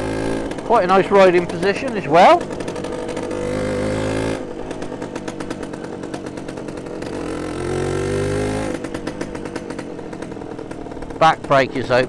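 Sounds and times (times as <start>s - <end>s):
two-stroke motorcycle engine: 0.0s - 12.0s.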